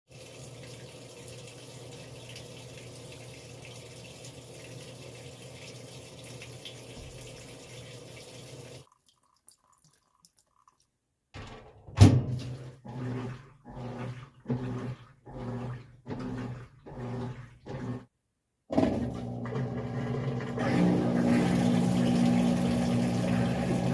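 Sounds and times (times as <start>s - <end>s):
washing machine agitator churning: 0.1s - 9.3s, 12.0s - 18.1s, 18.7s - 23.9s
water running into a tub: 0.1s - 18.1s, 18.7s - 23.9s.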